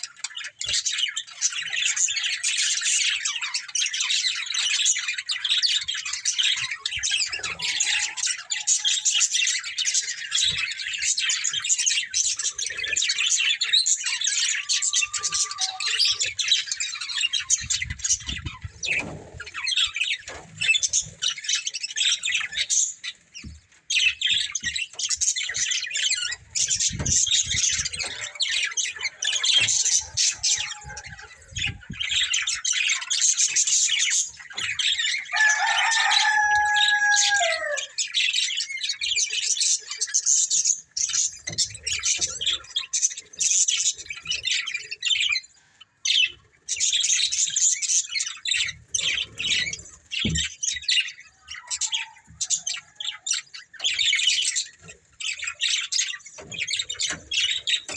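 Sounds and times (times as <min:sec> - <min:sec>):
budgerigars chirping and chattering: 0:00.0 - 0:57.9.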